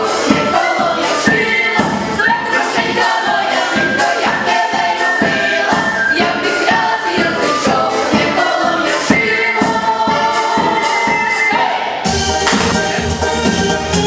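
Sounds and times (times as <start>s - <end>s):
choir singing: 0.0s - 14.0s
instrumental backing: 0.0s - 14.0s
steady percussive beat: 0.0s - 14.0s.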